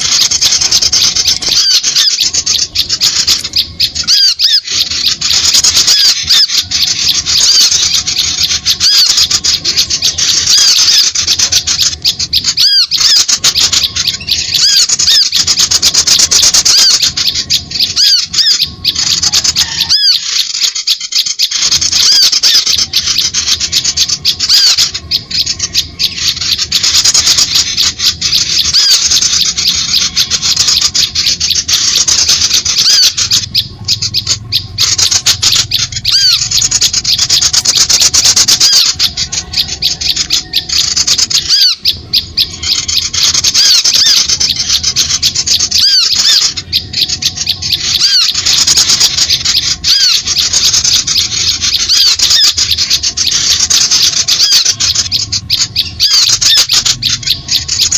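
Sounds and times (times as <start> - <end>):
small birds chattering: 0.0 - 57.9.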